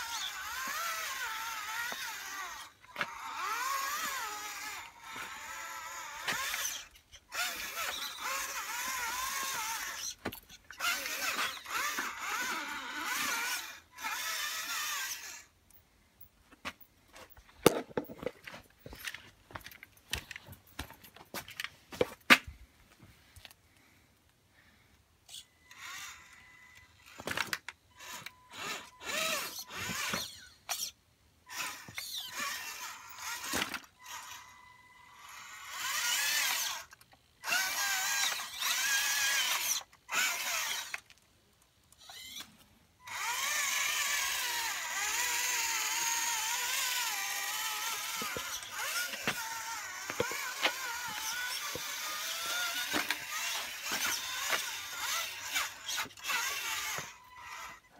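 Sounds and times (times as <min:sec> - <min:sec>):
toy truck motor whining: 0:00.0 - 0:16.4, 0:24.8 - 0:57.9.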